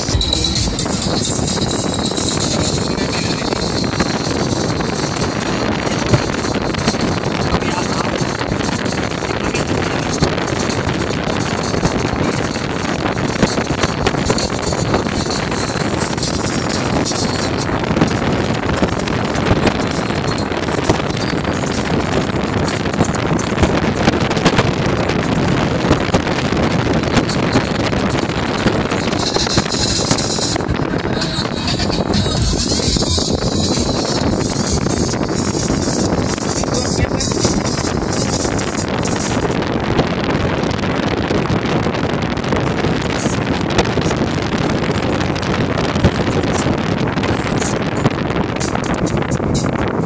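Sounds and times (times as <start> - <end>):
car road noise: 0.0 - 50.0
wind buffeting microphone: 0.0 - 50.0.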